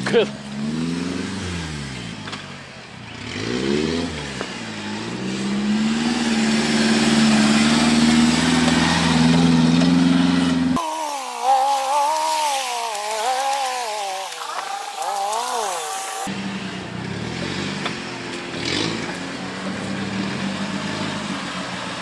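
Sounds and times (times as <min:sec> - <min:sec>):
off-road vehicle engine revving: 0:00.0 - 0:21.9.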